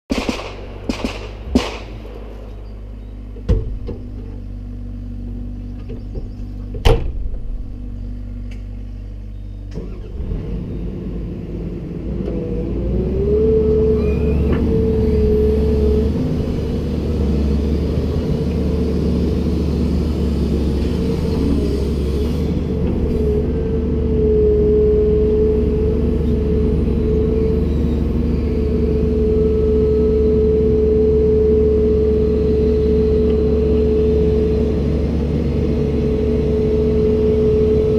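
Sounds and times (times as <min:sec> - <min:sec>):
steady whine: 0:00.1 - 0:11.6, 0:13.9 - 0:37.9
excavator diesel engine running: 0:00.1 - 0:37.9.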